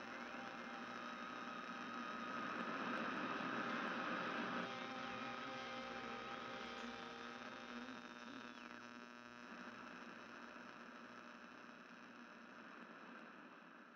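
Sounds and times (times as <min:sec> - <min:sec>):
faint buzzing hum: 0:00.0 - 0:13.9.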